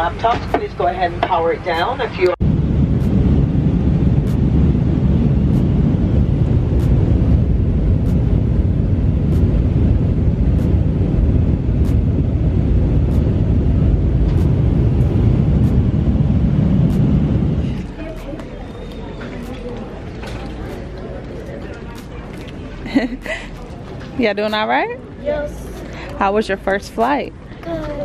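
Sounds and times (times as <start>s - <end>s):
jet engine noise: 0.0s - 27.6s
airflow noise in cabin: 0.0s - 28.0s.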